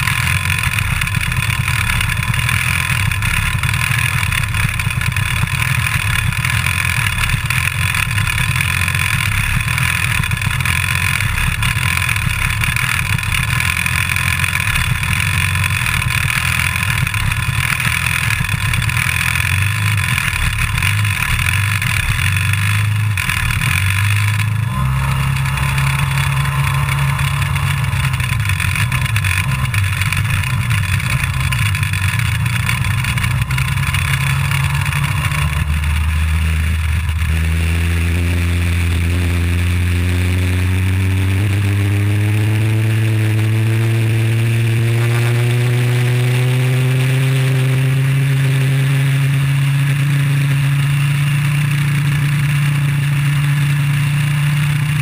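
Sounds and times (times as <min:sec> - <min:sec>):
kart engine accelerating: 0:00.0 - 0:55.0
other kart engines: 0:00.0 - 0:55.0.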